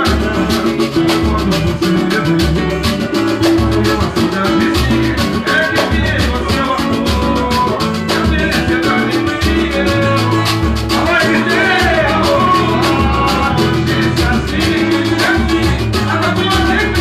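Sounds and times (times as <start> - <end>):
fast percussion: 0.0 - 17.0
latin band music: 0.0 - 17.0.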